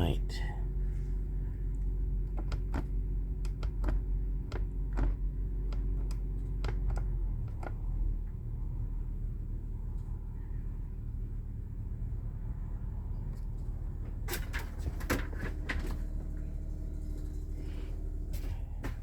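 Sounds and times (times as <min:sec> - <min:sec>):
diesel generator humming: 0:00.0 - 0:19.0.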